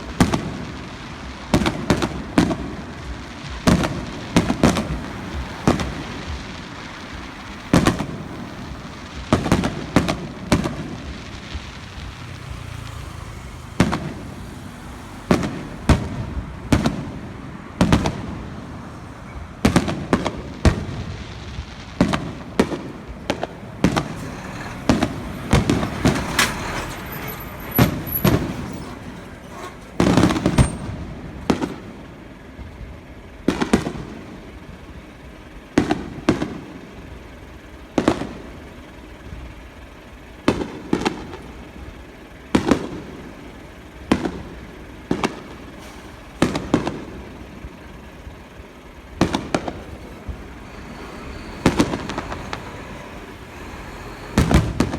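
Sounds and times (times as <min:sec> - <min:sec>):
fireworks booming: 0:00.0 - 0:54.9
fireworks crackling hiss: 0:00.0 - 0:54.9.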